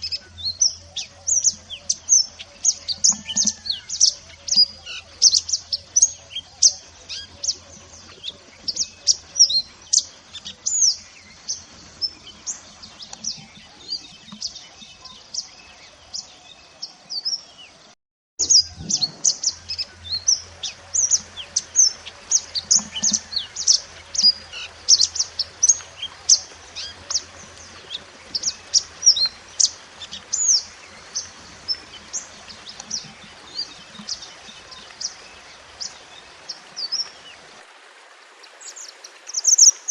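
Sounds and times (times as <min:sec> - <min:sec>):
songbird chirps and trills: 0:00.0 - 0:37.6.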